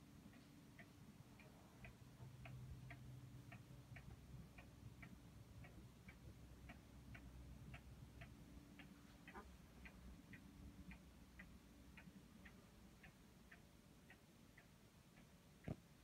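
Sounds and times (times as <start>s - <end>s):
pendulum clock ticking faintly: 0.0s - 16.0s.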